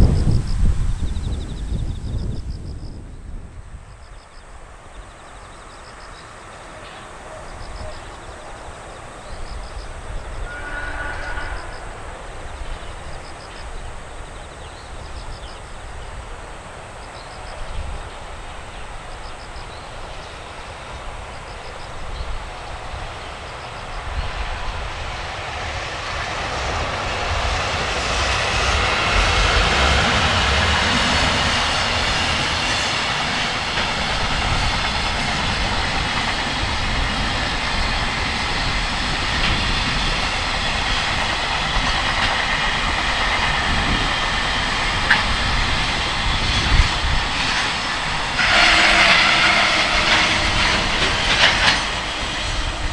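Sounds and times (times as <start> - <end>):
train passing: 0.0 - 52.9
wind buffeting microphone: 0.0 - 52.9.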